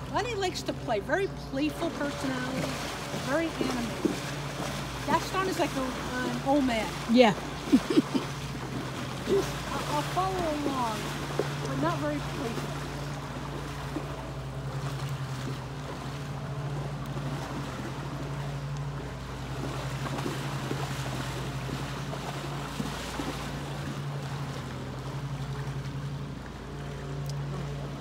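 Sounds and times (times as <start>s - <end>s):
horses splashing in water: 0.0s - 28.0s
low hum: 0.0s - 28.0s
shallow river rushing: 0.0s - 28.0s.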